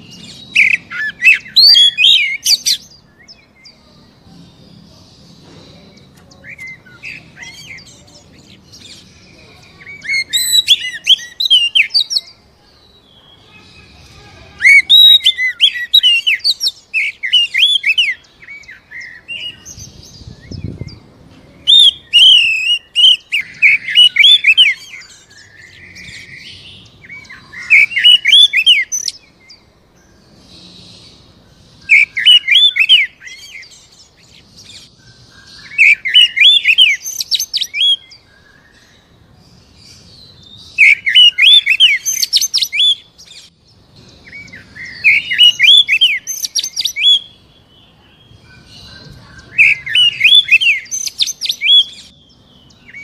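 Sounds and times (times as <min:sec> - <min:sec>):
bird singing whistled notes: 0:00.0 - 0:53.0.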